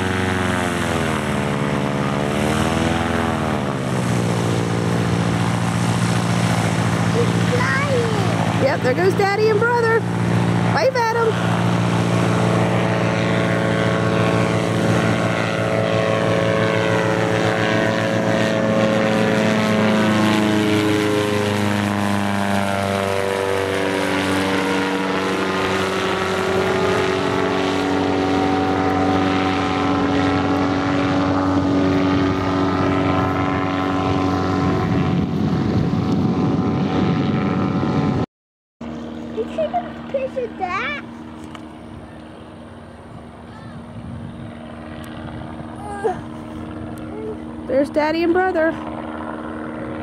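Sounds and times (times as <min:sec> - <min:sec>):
ultralight plane engine drone: 0:00.0 - 0:50.0.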